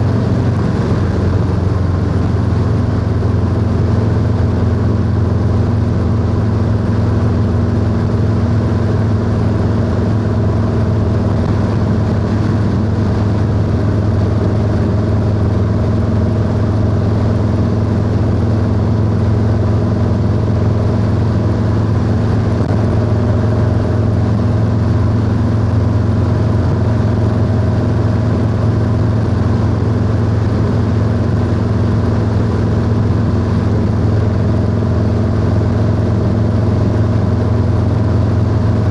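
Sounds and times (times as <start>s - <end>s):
motorcycle engine cruising: 0.0s - 38.9s
wind and road noise: 0.0s - 38.9s.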